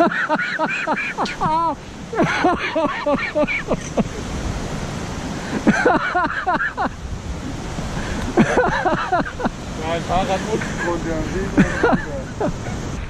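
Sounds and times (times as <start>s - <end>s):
wind on microphone: 1.1s - 13.0s.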